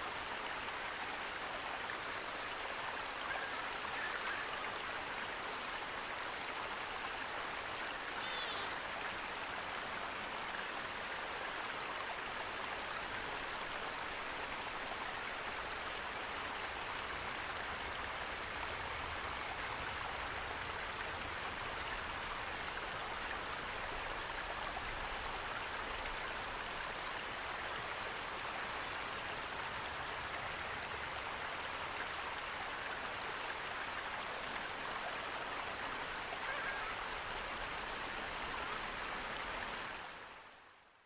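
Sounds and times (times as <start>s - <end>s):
flowing water rushing: 0.0s - 40.8s.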